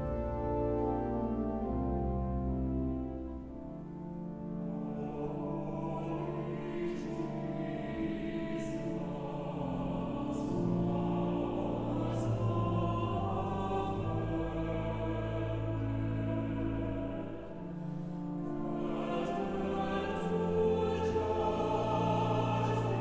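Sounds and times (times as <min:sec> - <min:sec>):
choir singing sacred piece: 0:00.0 - 0:23.0.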